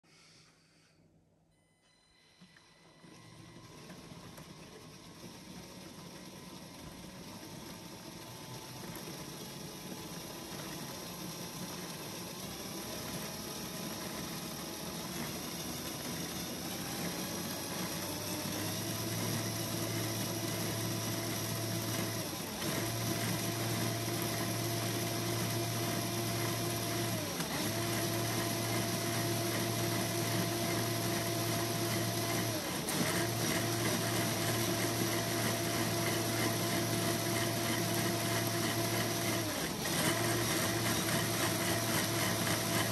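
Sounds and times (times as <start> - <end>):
toy motor whine and gear clatter: 7.7 - 42.9.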